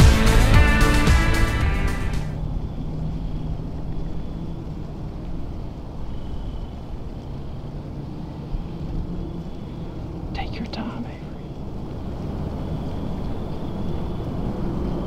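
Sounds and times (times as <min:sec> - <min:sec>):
distant engines rumbling: 0:00.0 - 0:15.0.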